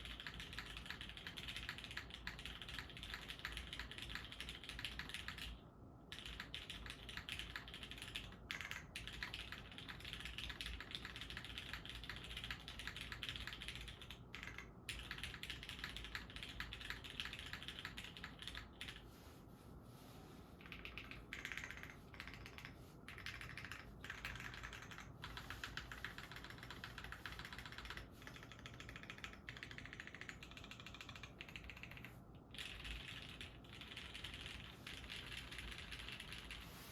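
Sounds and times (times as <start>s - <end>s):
typing on mechanical keyboard: 0.0s - 19.0s, 20.6s - 36.8s.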